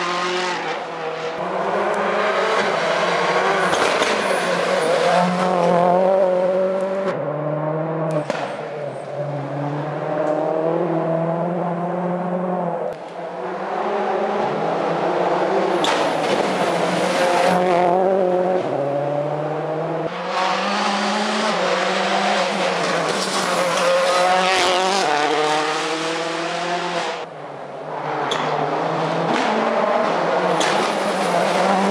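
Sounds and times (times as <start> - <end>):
rally car engines at full throttle: 0.0 - 31.9.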